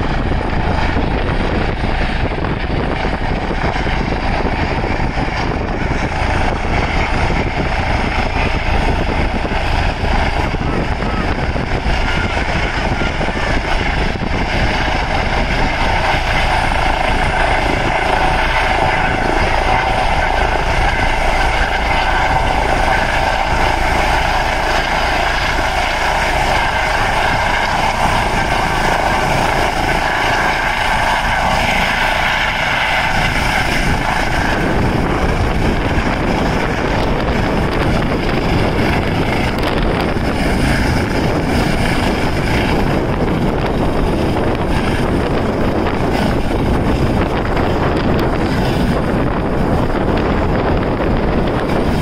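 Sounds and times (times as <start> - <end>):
helicopter rotor noise: 0.0 - 52.0
helicopter turbine whine: 0.0 - 52.0
wind rumble on microphone: 0.0 - 52.0.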